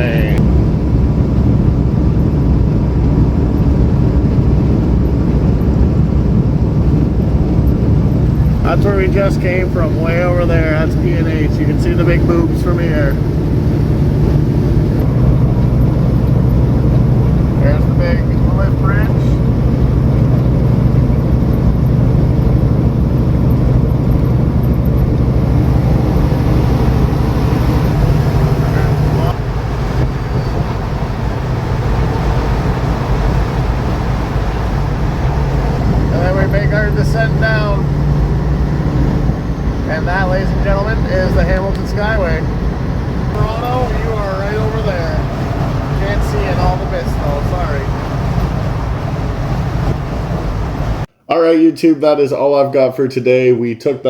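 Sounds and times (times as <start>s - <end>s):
truck diesel engine drone: 0.0s - 51.1s
road noise: 0.0s - 51.2s
tyres on highway: 0.0s - 51.2s.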